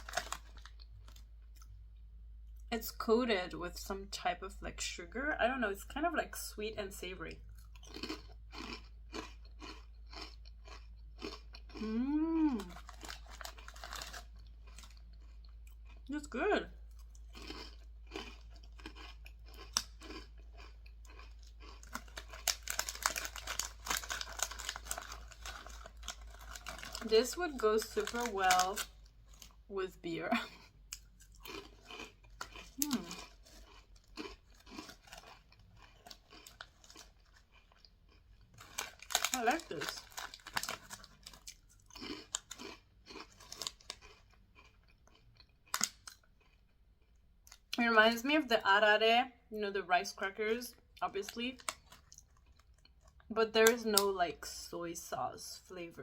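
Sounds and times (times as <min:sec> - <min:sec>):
crunchy rice crackers chewing: 0:00.0 - 0:02.7, 0:06.9 - 0:29.7, 0:30.3 - 0:47.8, 0:50.8 - 0:54.1.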